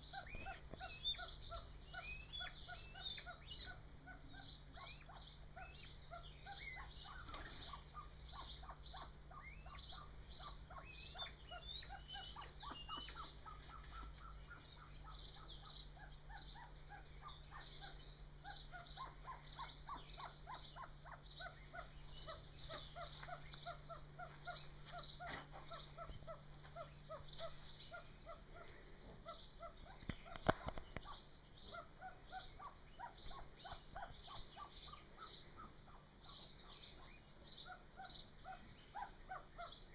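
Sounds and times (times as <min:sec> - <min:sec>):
pheasant chicks peeping: 0:00.0 - 0:39.9
pheasant hens clucking: 0:00.0 - 0:39.9.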